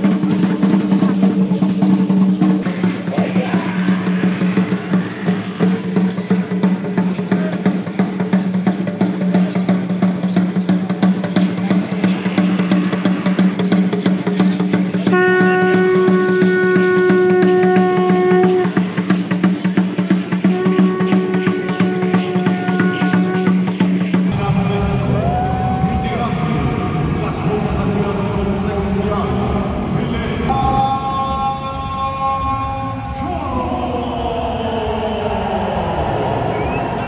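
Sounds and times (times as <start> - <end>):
fast dense drumming: 0.0 - 30.8.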